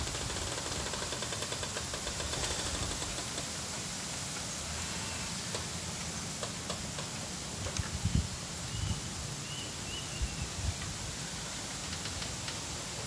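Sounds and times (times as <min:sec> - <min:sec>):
river hiss: 0:00.0 - 0:13.0.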